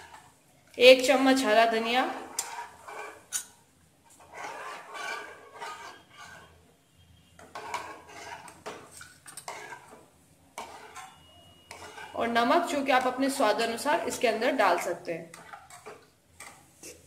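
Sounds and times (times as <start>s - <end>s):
spatula scraping frying pan: 0.0s - 0.4s, 1.2s - 17.0s.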